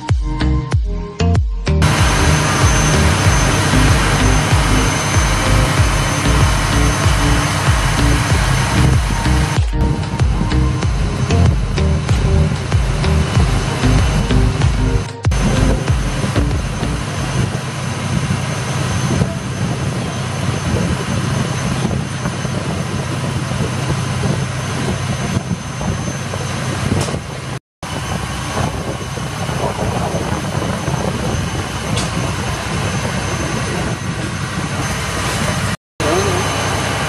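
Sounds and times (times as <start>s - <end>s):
diesel engine drone: 1.6s - 37.0s
water rushing along hull: 1.8s - 10.2s, 15.4s - 37.0s.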